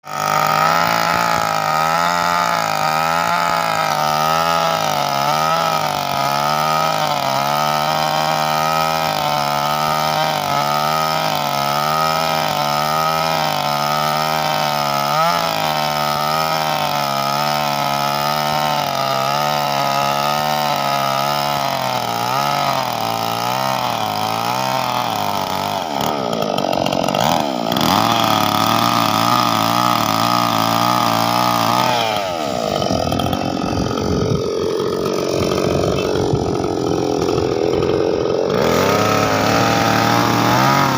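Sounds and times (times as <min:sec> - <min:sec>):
chaff cutter engine running: 0:00.0 - 0:40.9.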